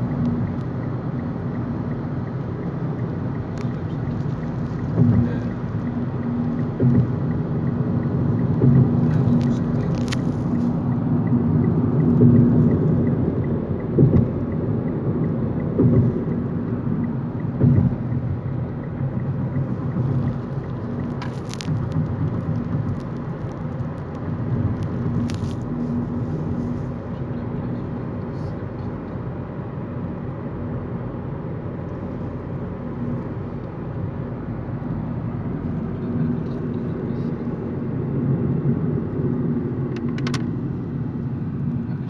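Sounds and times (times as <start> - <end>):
car road and engine rumble: 0.0 - 42.0
constant low hum: 0.0 - 42.0.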